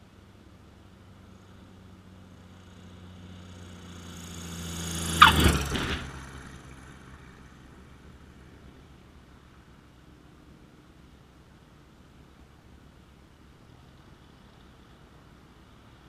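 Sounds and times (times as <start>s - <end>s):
propeller airplane passing overhead: 0.0s - 16.0s.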